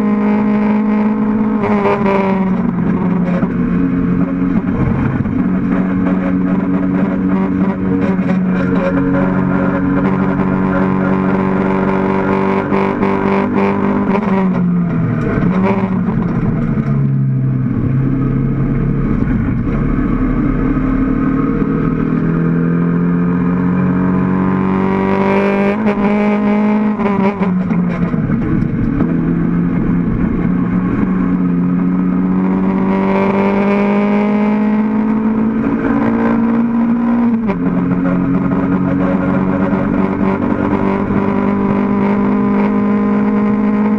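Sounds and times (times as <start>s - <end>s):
race car engine accelerating: 0.0s - 43.9s.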